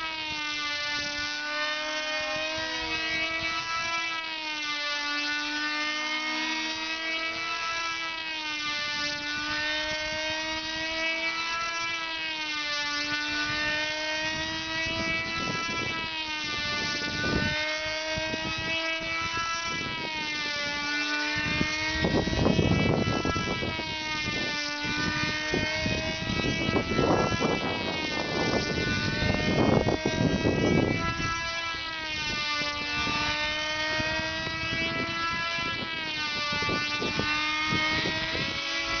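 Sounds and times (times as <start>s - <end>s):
model airplane engines buzzing: 0.0s - 39.0s.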